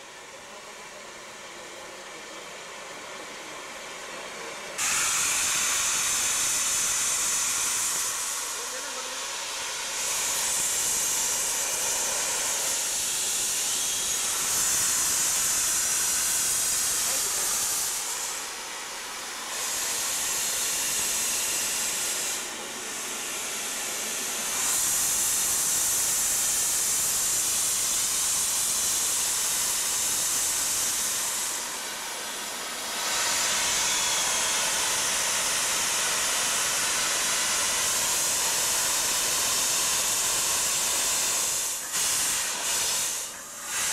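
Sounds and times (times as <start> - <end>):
steam locomotive hissing: 4.4 - 43.9.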